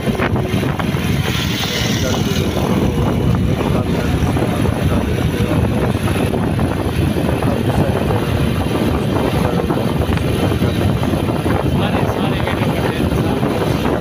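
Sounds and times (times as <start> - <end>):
vehicle engine and road noise: 0.0 - 14.0
wind buffeting microphone: 0.0 - 14.0.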